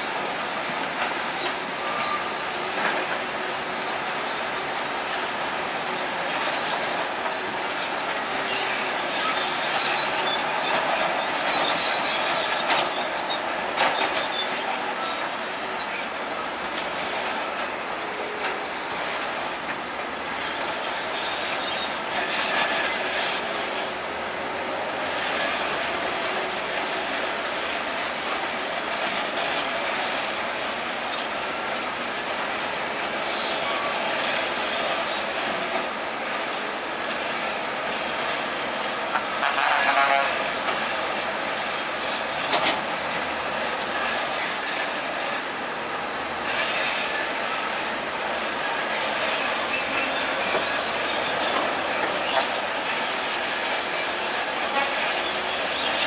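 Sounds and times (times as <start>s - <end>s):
steel tracks clanking and squealing: 0.0s - 56.0s.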